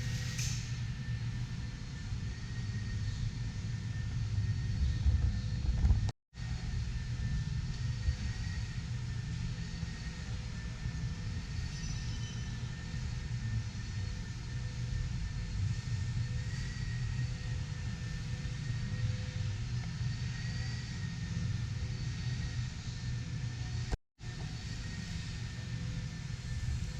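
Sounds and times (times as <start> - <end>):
faint steady whines: 0.0 - 26.9
low rumble of exhibition hall: 0.0 - 26.9.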